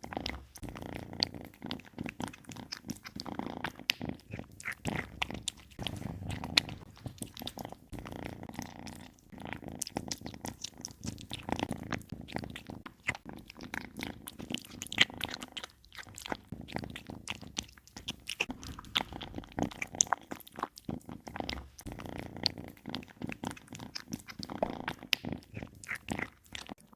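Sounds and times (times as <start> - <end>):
kittens crunching dry food: 0.0 - 26.9.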